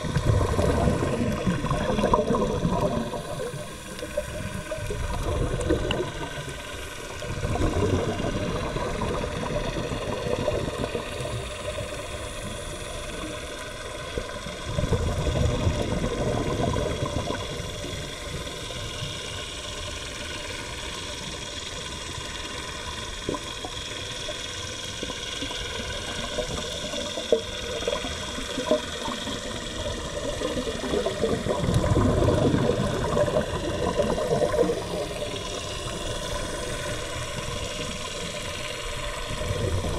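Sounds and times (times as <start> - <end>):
underwater air bubbles: 0.0 - 39.9.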